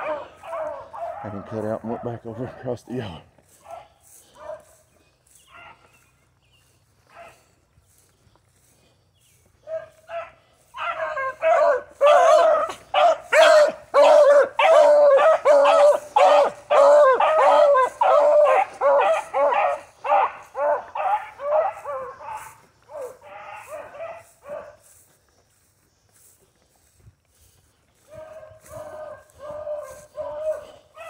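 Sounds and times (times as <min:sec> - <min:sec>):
hounds baying: 0:00.0 - 0:25.6, 0:27.7 - 0:31.0.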